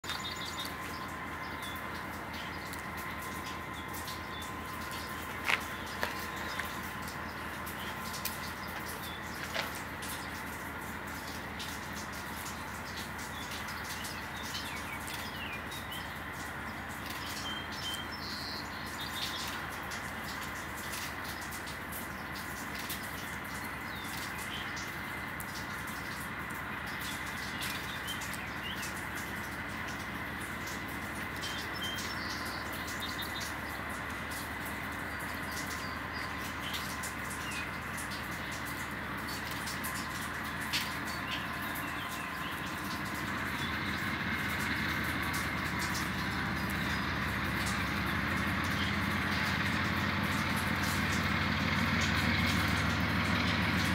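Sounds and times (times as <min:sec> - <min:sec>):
distant freight train rumble: 0:00.0 - 0:53.9
songbirds chirping: 0:00.0 - 0:53.9.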